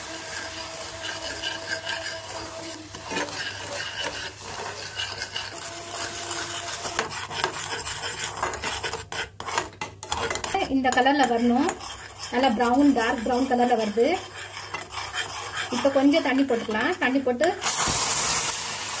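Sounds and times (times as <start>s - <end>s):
spoon scraping metal saucepan: 0.0s - 18.1s.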